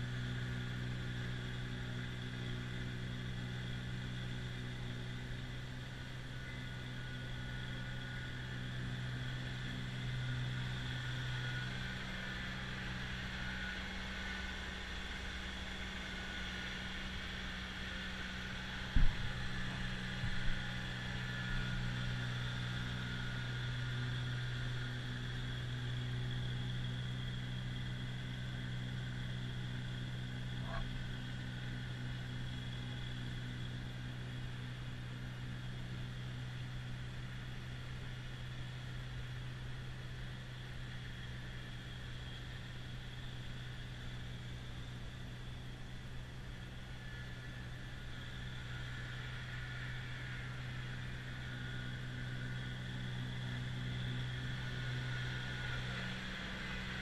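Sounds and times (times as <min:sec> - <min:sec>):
snowblower clearing snow: 0:00.0 - 0:57.0.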